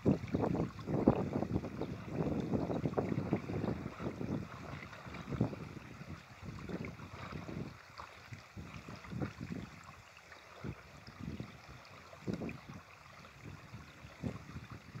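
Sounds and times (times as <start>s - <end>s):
river water washing on shore: 0.0s - 15.0s
wind buffeting microphone: 0.0s - 15.0s.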